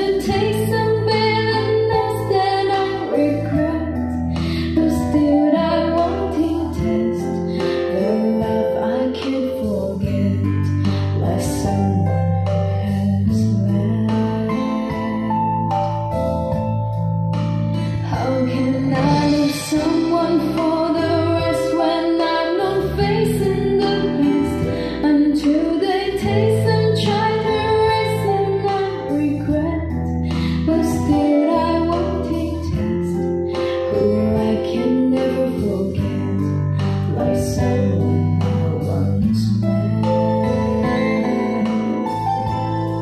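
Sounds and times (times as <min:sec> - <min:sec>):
woman singing: 0:00.0 - 0:16.2, 0:17.8 - 0:42.6
steady bass line: 0:00.0 - 0:43.0.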